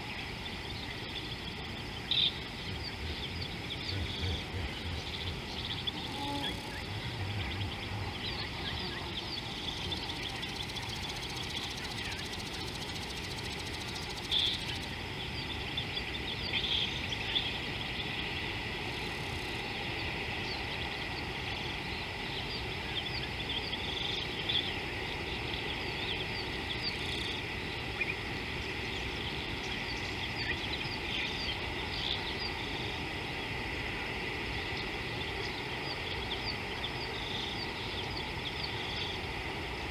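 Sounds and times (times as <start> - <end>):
small birds chirping: 0.0 - 33.8, 34.5 - 39.4
insects chirring: 0.0 - 39.9
low background noise: 0.0 - 39.9.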